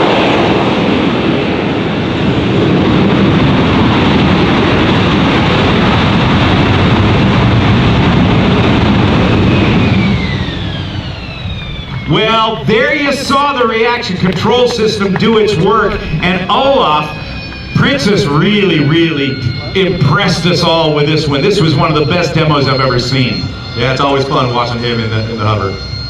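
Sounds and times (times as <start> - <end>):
jet engine running loud: 0.0 - 26.0.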